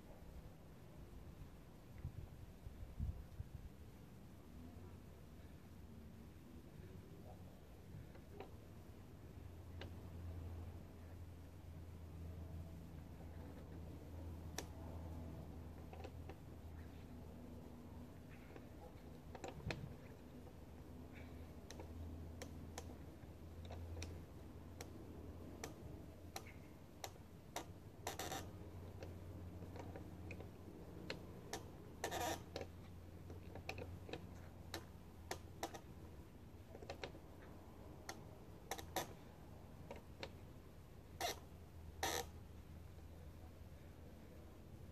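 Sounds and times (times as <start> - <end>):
low steady background hum: 0.0 - 44.9.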